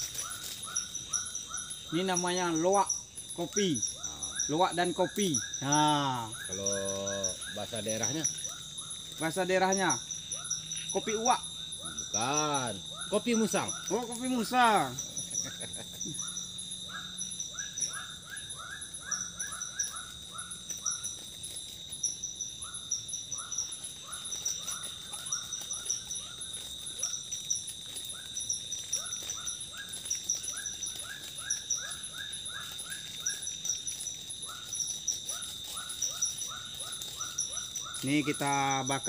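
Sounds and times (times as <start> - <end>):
high insect drone: 0.0 - 39.0
rapid clustered chirping: 0.0 - 39.0.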